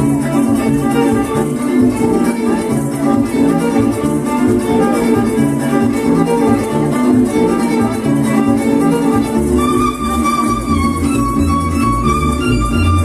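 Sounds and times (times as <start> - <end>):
instrumental dance music with strings: 0.0 - 13.0.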